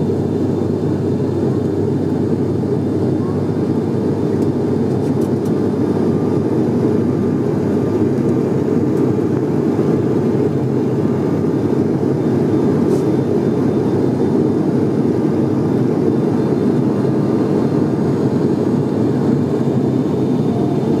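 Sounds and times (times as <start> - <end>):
turboprop engines droning in cabin: 0.0 - 21.0.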